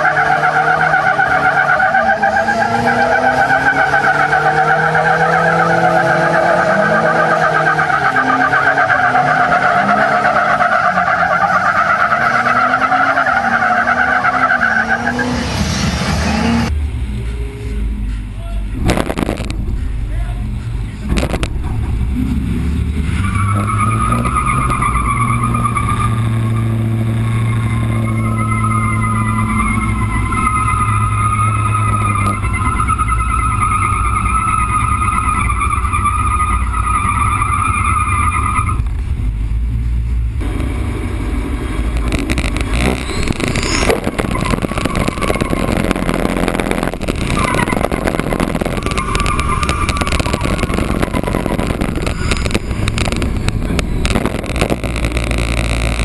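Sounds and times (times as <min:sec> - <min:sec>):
tyres squealing: 0:00.0 - 0:15.4, 0:23.0 - 0:38.8, 0:42.2 - 0:56.0
truck engine running hard: 0:00.0 - 0:56.0.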